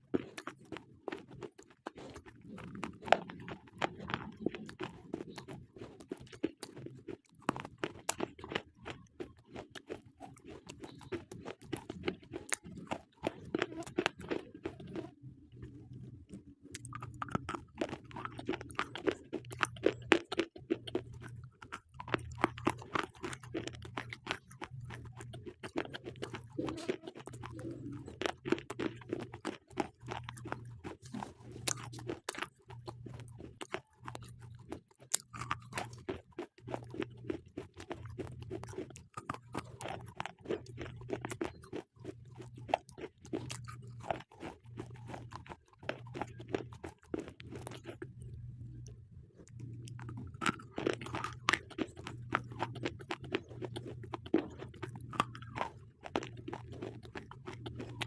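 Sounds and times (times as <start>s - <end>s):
slate pencils being chewed: 0.0s - 58.0s.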